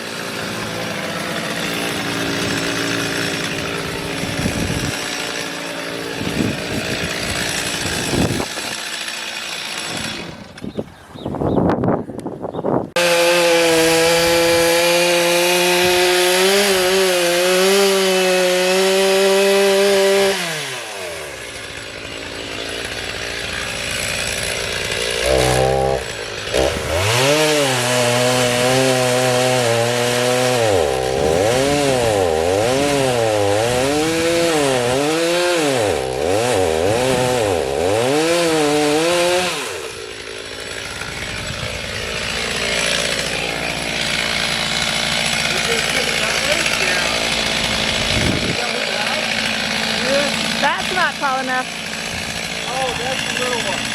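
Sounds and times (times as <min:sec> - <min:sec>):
chainsaw cutting wood: 0:00.0 - 0:10.9, 0:12.9 - 0:53.9.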